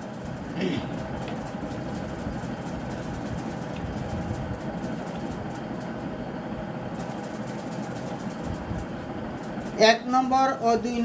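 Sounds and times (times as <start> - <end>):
low rumbling machine noise: 0.0 - 11.0.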